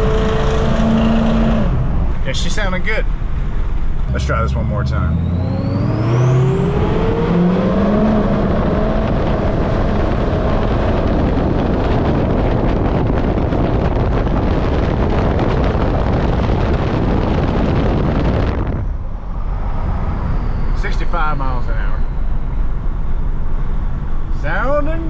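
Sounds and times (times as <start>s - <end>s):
diesel truck accelerating: 0.0s - 25.0s.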